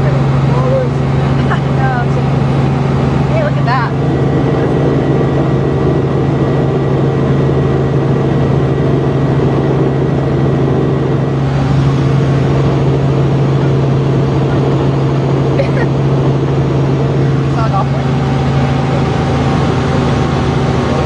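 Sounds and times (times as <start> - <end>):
helicopter engine and rotor drone: 0.0 - 21.0.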